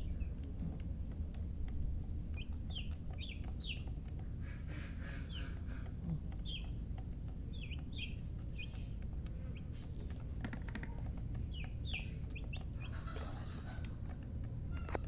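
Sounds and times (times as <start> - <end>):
baby chicks peeping: 0.0 - 15.0
steady low rumble: 0.0 - 15.0.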